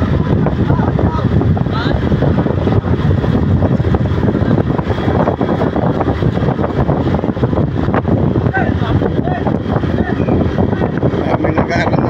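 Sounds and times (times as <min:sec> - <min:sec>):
vehicle engine and road noise: 0:00.0 - 0:12.0
wind rushing on microphone: 0:00.0 - 0:12.0.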